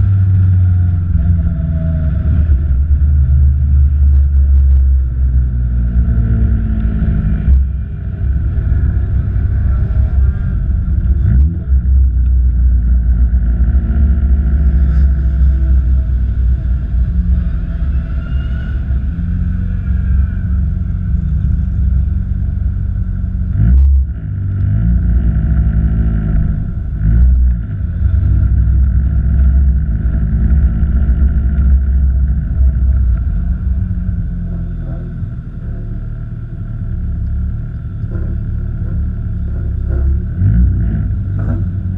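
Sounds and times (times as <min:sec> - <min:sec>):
car engine at low revs: 0:00.0 - 0:41.9.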